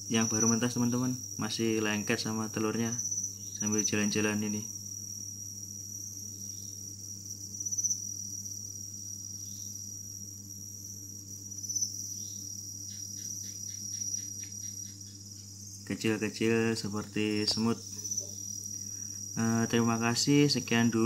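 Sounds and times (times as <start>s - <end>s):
crickets trilling: 0.0s - 21.0s
low steady hum: 0.0s - 21.0s.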